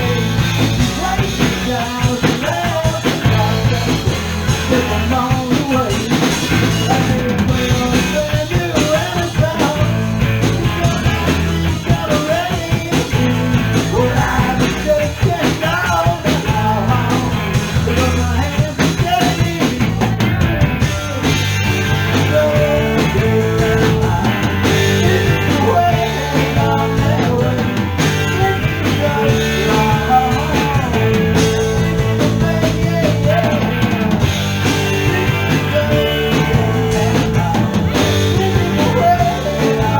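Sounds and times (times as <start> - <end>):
drum kit: 0.0 - 39.9
steady bass line: 0.0 - 39.9.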